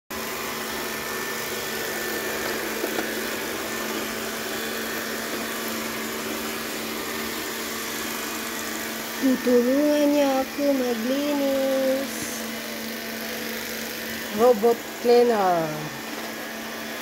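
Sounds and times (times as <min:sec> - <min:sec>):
robot vacuum cleaner humming: 0:00.1 - 0:17.0.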